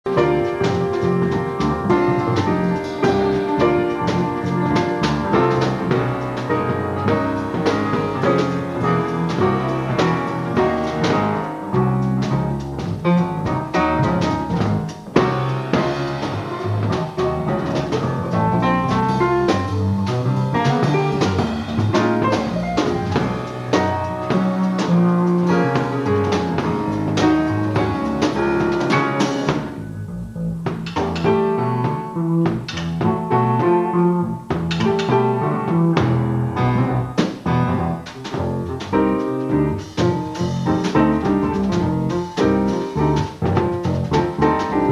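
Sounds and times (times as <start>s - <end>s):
jazz band playing: 0.0s - 44.9s.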